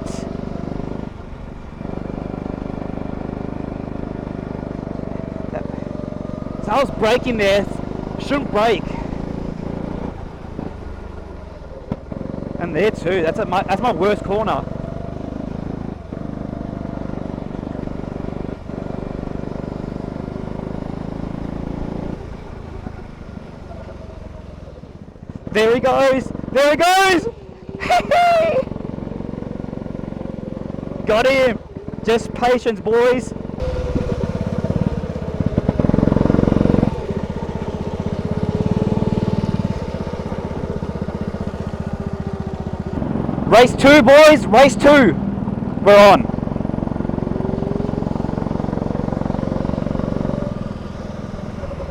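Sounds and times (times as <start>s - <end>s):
go-kart engine running: 0.0s - 51.9s.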